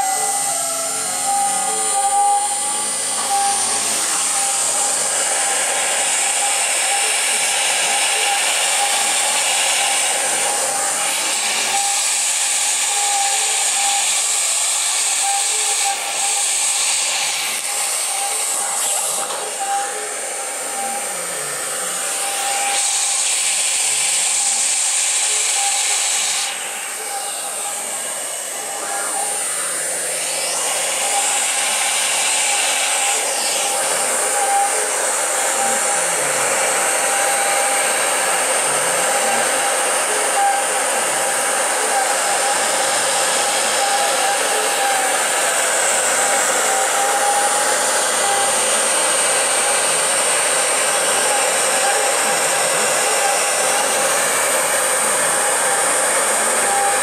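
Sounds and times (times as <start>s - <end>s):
end mill cutting sheet: 0.0s - 57.0s
mill spindle high whine: 0.0s - 57.0s
motor tones gliding in pitch: 0.0s - 57.0s.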